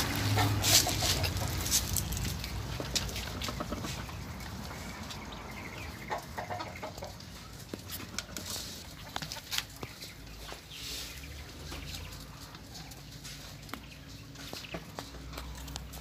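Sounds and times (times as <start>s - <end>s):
quail clucking and peeping: 0.0s - 16.0s.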